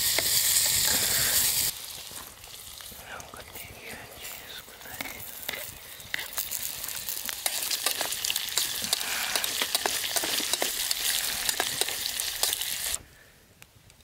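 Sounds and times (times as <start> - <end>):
vegetables sizzling in a pot: 0.0 - 3.0, 4.2 - 13.0
sharp crackles: 0.0 - 13.0.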